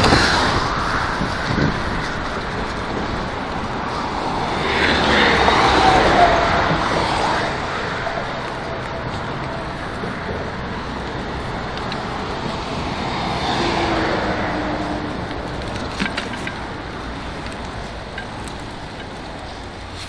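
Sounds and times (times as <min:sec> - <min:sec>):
motorway traffic rushing: 0:00.0 - 0:20.0.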